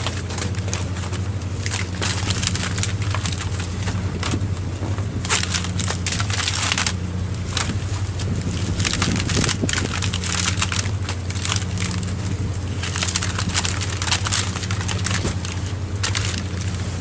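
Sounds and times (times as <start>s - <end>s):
boat engine droning: 0.0s - 17.0s
irregular crackling and clattering: 0.0s - 17.0s.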